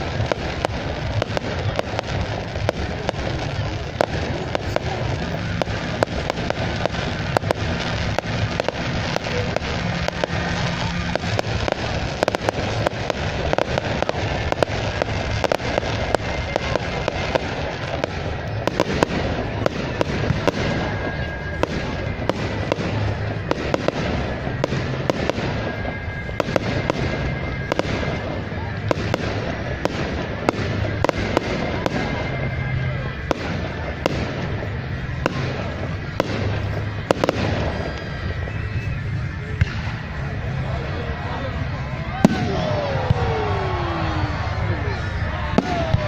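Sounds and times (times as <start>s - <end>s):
fireworks crackling and banging: 0.0s - 46.0s.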